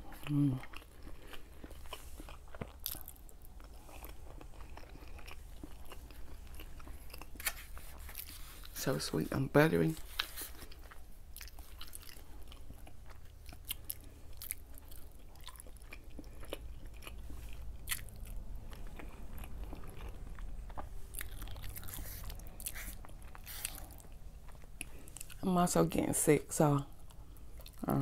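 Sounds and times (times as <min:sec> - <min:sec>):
person chewing food: 0:00.0 - 0:08.8, 0:10.0 - 0:25.4, 0:26.9 - 0:27.9.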